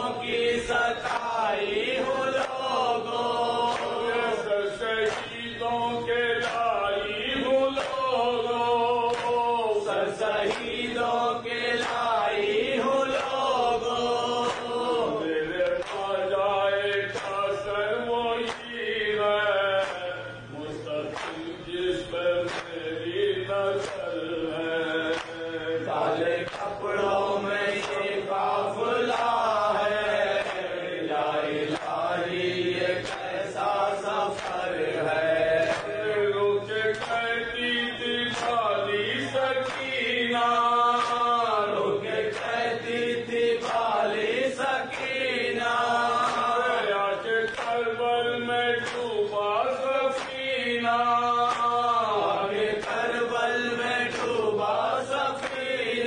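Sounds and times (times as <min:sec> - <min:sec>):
men chanting through pa: 0:00.0 - 0:56.0
rhythmic chest slaps: 0:00.0 - 0:56.0.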